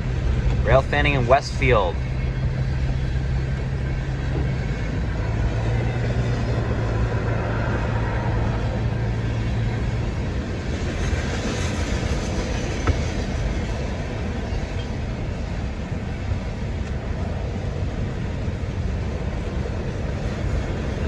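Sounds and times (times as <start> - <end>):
freight train rumbling on rails: 0.0 - 21.0.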